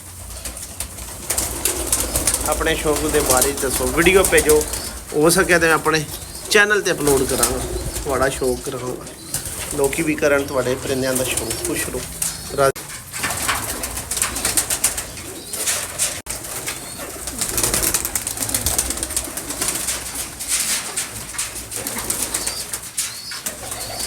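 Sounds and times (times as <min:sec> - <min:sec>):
pigeons cooing: 0:00.0 - 0:24.0
rustling and scratching: 0:00.0 - 0:24.0.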